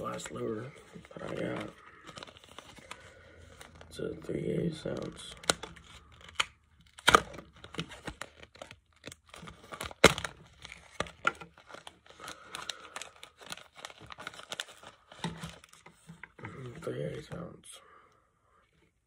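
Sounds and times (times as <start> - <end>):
plastic packaging tearing and crinkling: 0.0 - 16.2.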